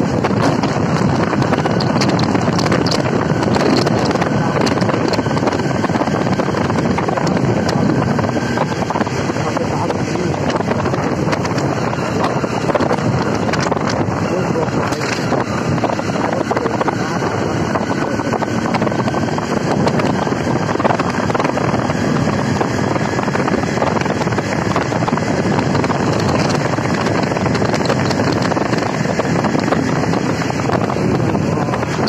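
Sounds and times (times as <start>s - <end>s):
motorcycle engine running: 0.0s - 32.0s
wind rush on microphone: 0.0s - 32.0s.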